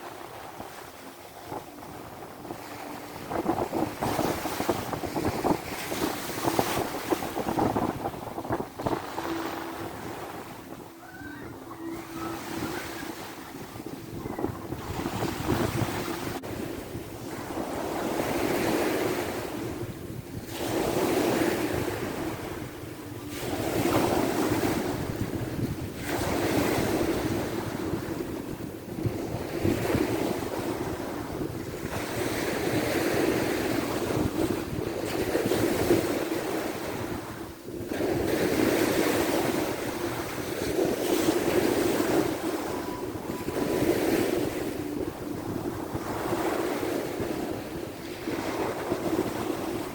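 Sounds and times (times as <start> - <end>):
sea waves washing ashore: 0.0 - 49.9
wind buffeting microphone: 0.0 - 49.9.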